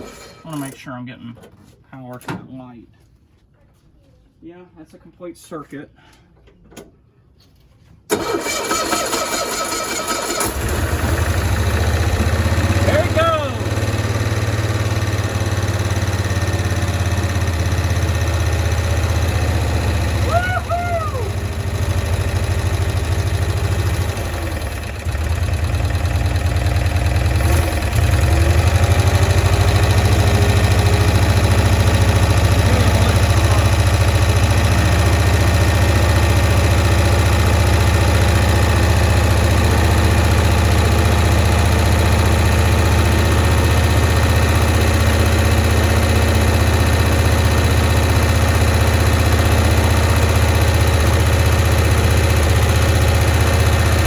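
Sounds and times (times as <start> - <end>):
engine running: 8.1 - 54.0.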